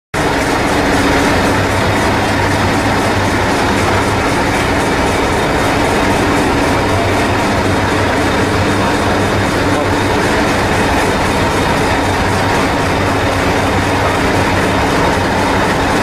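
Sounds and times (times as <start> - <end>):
diesel train engine idling: 0.2 - 16.0.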